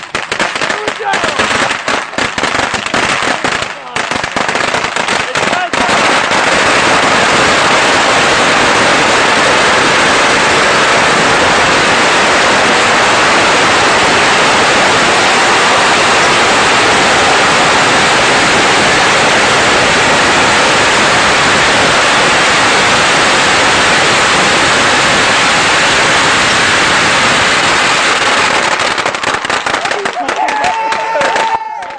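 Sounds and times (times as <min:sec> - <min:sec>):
firecrackers crackling: 0:00.0 - 0:31.9.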